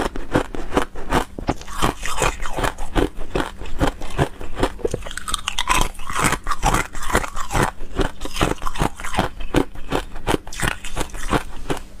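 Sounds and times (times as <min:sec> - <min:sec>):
person chewing crunchy ice: 0:00.0 - 0:12.0.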